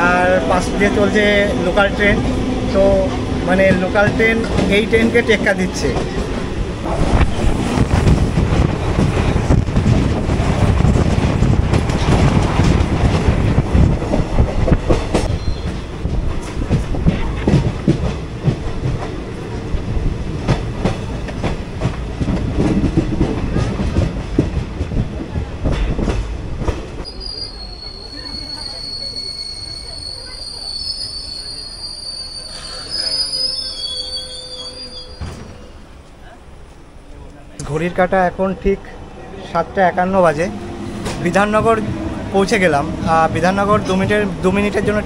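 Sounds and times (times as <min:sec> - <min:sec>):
train wheels rumbling on rails: 0:00.0 - 0:38.0, 0:38.8 - 0:45.0.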